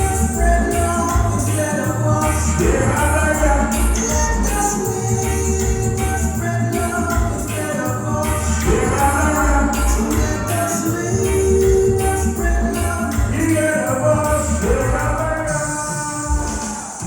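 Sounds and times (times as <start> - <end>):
latin dance music: 0.0 - 17.0
person singing: 0.0 - 17.0
shaker percussion: 0.0 - 17.0.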